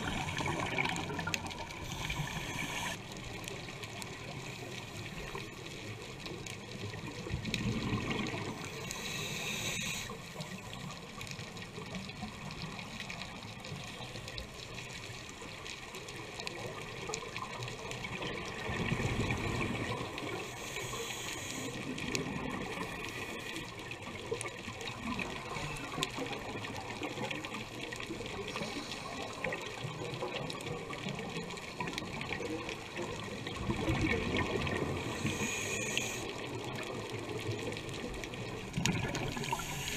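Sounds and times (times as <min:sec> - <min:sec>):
muffled underwater wash: 0:00.0 - 0:39.9.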